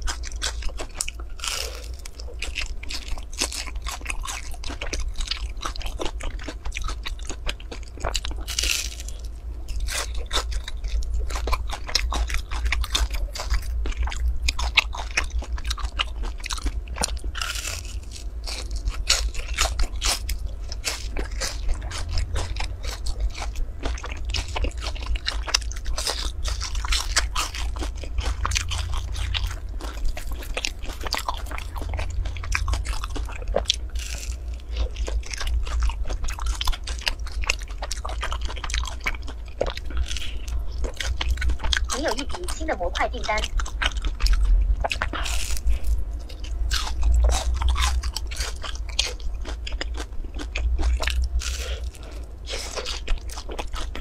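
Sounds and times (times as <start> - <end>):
crunching and chewing: 0.0 - 54.0
steady low hum: 0.0 - 54.0.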